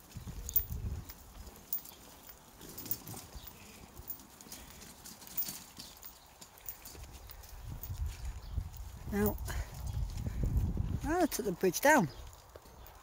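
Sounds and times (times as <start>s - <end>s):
footsteps on paved path: 0.0s - 13.0s.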